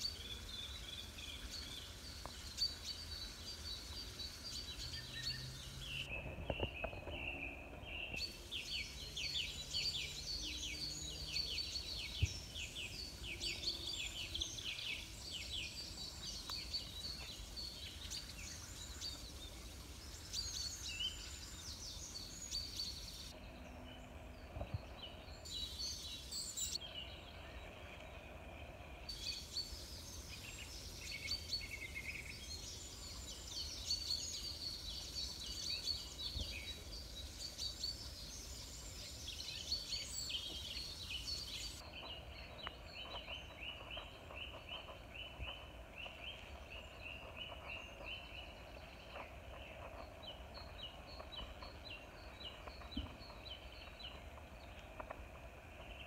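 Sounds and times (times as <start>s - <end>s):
wild birds singing and calling: 0.0s - 56.0s.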